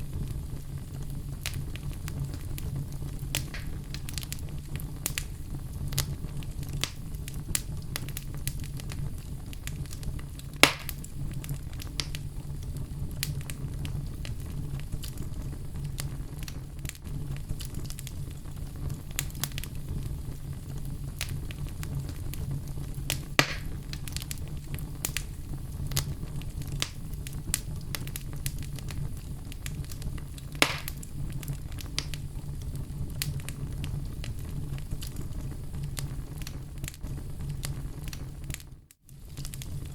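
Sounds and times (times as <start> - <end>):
fire crackling in fireplace: 0.0 - 39.9
loud fire pops: 0.0 - 39.9.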